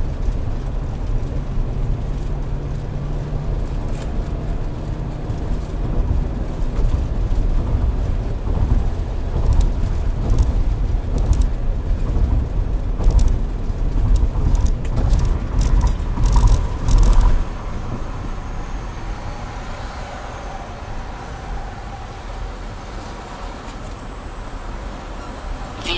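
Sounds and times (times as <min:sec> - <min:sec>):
car road and engine rumble: 0:00.0 - 0:25.9
low wind buffeting: 0:00.0 - 0:25.9.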